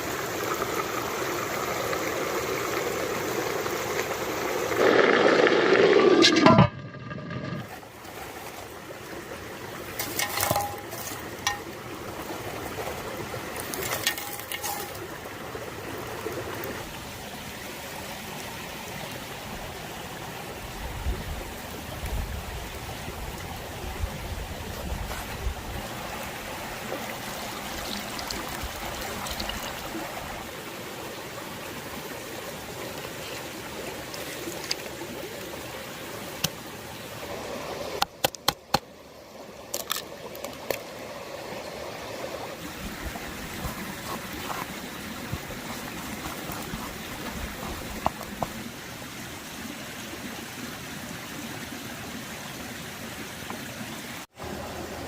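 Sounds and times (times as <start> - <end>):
stream rushing: 0.0 - 55.0.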